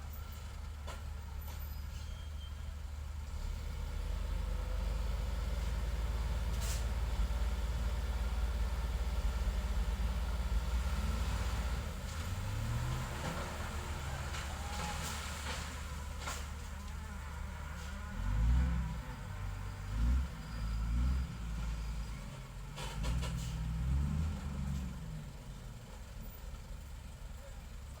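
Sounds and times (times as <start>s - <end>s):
diesel engine rumbling and revving: 0.0s - 28.0s.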